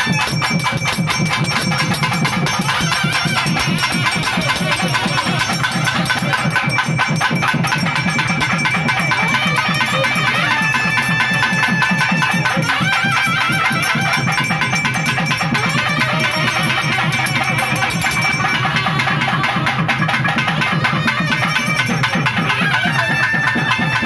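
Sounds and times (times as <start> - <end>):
fast temple drum strokes: 0.0 - 24.0
steady high tone: 0.0 - 24.0.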